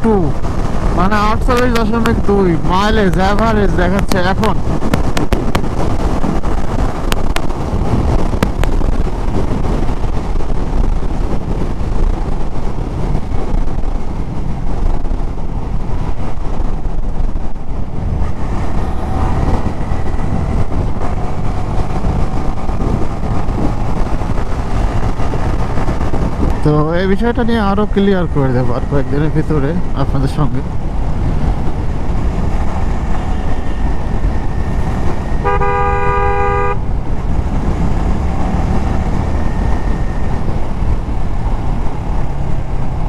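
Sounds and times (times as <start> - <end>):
motorcycle engine cruising: 0.0 - 43.0
wind rushing over microphone: 0.0 - 43.0.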